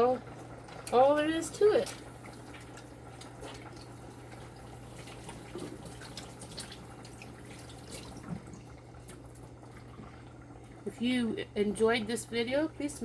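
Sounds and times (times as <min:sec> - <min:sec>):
water dripping: 0:00.3 - 0:13.0.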